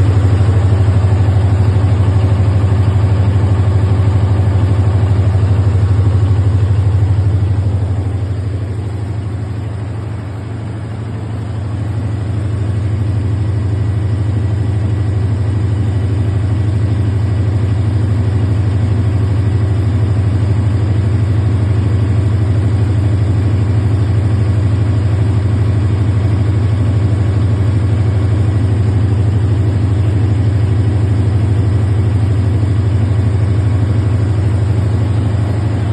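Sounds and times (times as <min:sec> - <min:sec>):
diesel generator engine droning: 0:00.0 - 0:35.9.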